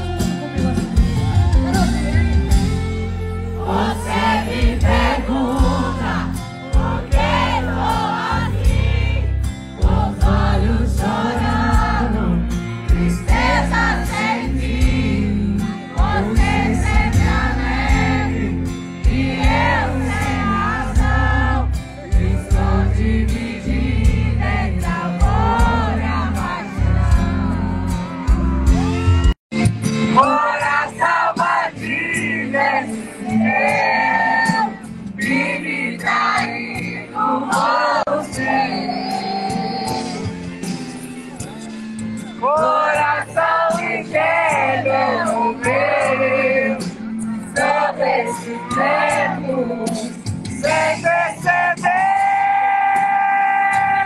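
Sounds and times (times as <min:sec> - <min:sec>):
crowd singing along: 0:00.0 - 0:29.2, 0:29.8 - 0:54.0
live band music: 0:00.0 - 0:54.0.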